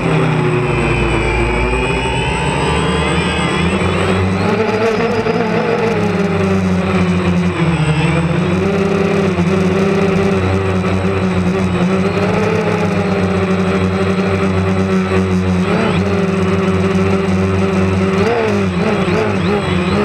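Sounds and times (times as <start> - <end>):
drone propellers whirring: 0.0 - 20.0.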